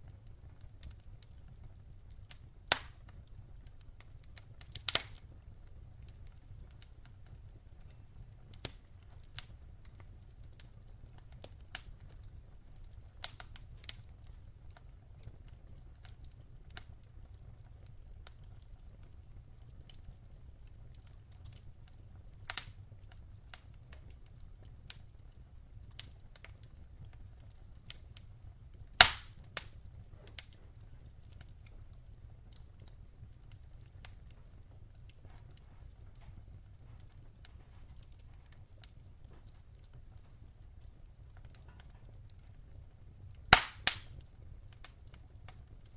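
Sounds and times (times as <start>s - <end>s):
campfire popping and snapping: 0.0s - 45.9s
low rumble of fire: 0.0s - 45.9s.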